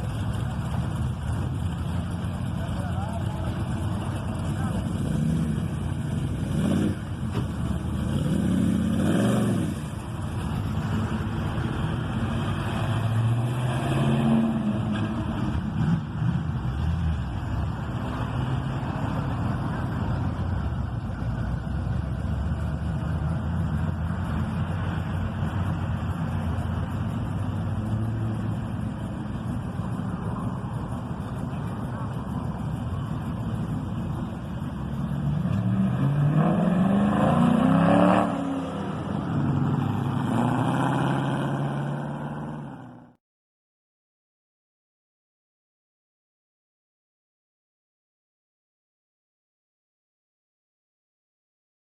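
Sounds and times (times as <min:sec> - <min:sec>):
car engines revving: 0:00.0 - 0:43.2.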